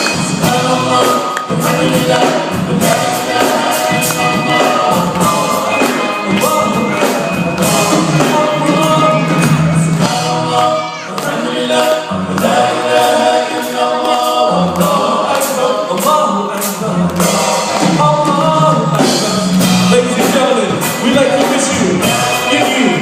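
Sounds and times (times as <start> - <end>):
many voices singing a chant: 0.0 - 23.0
steady percussive beat: 0.0 - 23.0.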